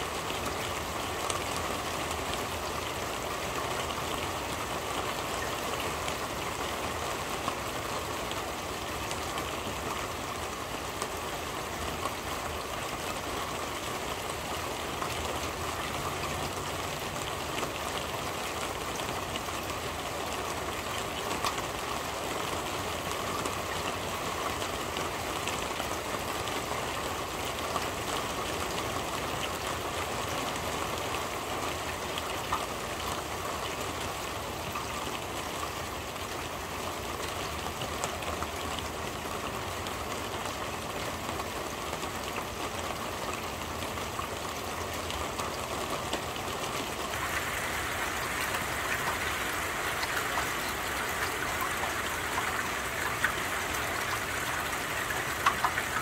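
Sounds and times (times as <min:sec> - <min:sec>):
rain on a corrugated roof: 0:00.0 - 0:56.0.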